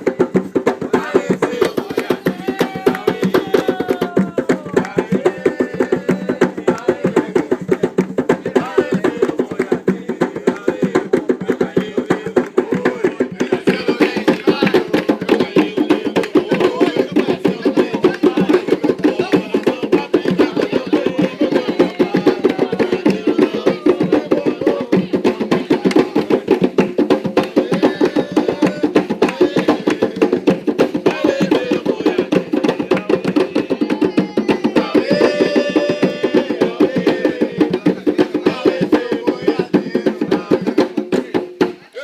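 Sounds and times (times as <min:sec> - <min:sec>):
hand drums played fast: 0:00.0 - 0:42.0.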